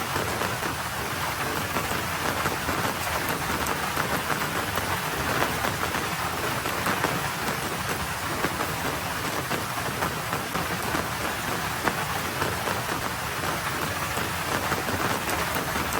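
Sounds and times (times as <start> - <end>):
rain falling on road: 0.0 - 15.9.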